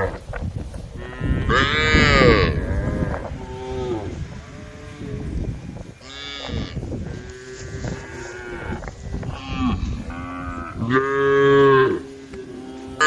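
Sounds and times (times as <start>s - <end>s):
cows mooing: 1.0s - 13.0s.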